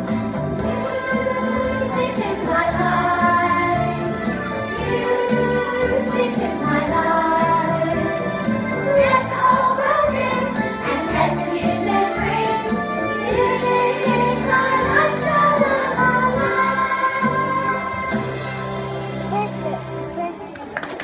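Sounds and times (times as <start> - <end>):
backing track with steady beat: 0.0 - 20.0
group singing: 0.7 - 18.3.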